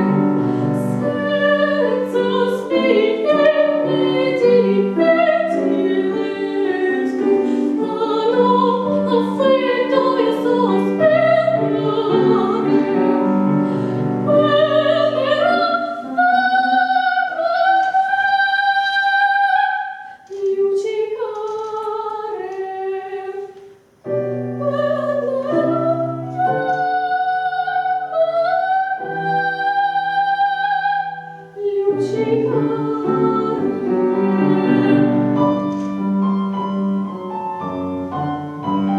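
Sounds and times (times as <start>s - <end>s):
piano accompaniment: 0.0s - 38.9s
woman singing operatically: 0.8s - 13.5s, 14.2s - 23.6s, 24.6s - 35.5s.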